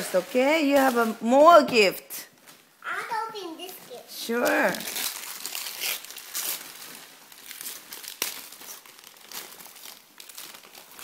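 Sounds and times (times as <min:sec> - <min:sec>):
wrapping paper tearing and crumpling: 0:00.0 - 0:01.6, 0:02.2 - 0:11.0.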